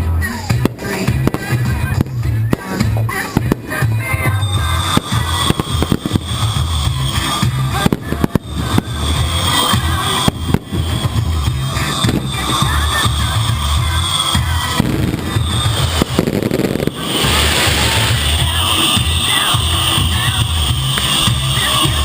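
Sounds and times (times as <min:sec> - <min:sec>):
fireworks bangs and crackles: 0:00.0 - 0:22.0
loud music with steady bass: 0:00.0 - 0:22.0.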